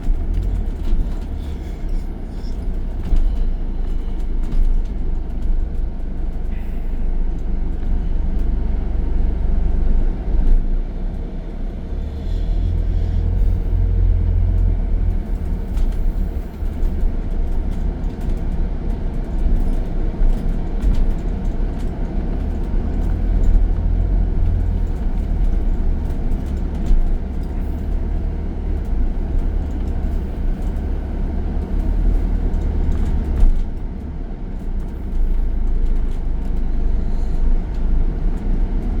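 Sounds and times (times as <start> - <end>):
bus engine low rumble: 0.0 - 39.0.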